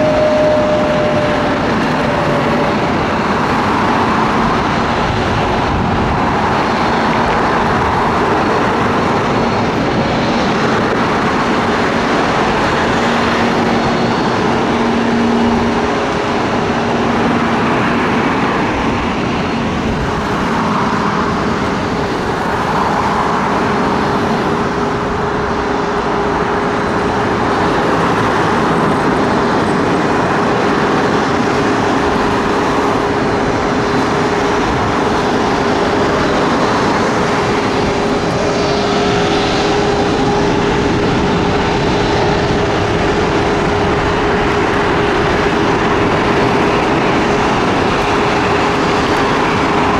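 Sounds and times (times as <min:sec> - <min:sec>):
loud droning engine roar: 0:00.0 - 0:49.9.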